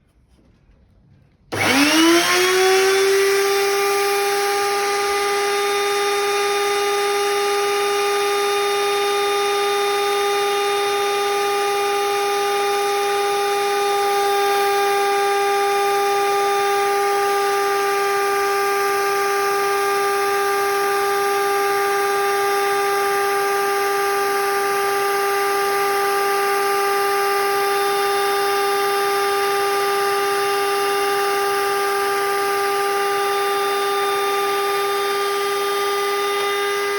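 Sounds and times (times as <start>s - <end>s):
lathe motor whining: 1.5s - 36.9s.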